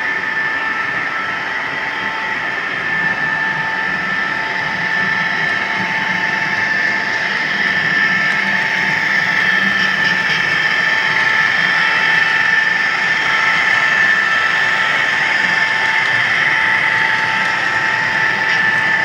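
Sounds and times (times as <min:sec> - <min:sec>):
model train running with whine: 0:00.0 - 0:19.0.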